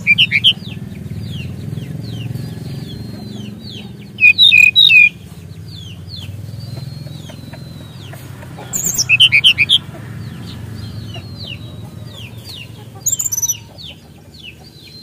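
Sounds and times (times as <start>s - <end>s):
clear whistled bird notes: 0.0s - 12.4s
flycatcher chirping: 0.0s - 15.0s.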